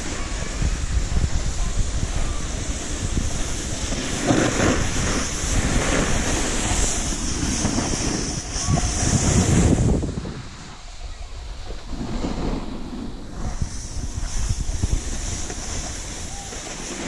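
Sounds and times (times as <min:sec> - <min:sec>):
skis scraping on snow: 0:00.0 - 0:17.0
wind rushing over microphone: 0:00.0 - 0:17.0.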